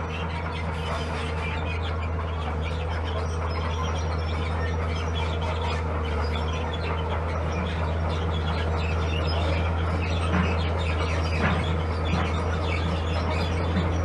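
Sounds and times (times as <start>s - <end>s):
diesel engine low drone: 0.0s - 14.0s.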